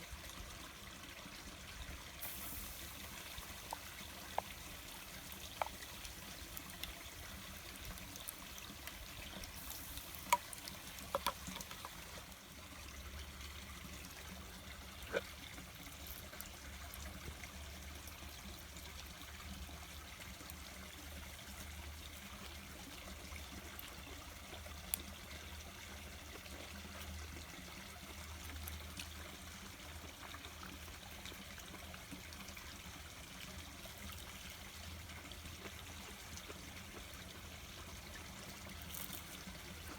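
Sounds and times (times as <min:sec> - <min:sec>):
water trickling: 0:00.1 - 0:39.9.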